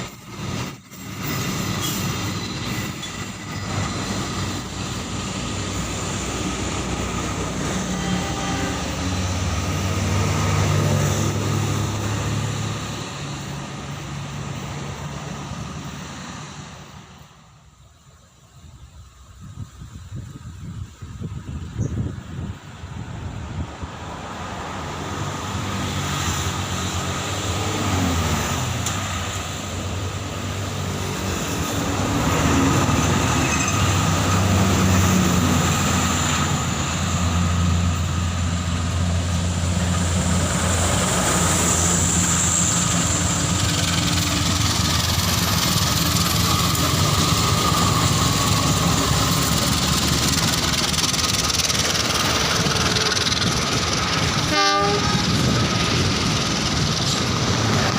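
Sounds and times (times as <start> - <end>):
diesel locomotive engine: 0.0 - 57.9.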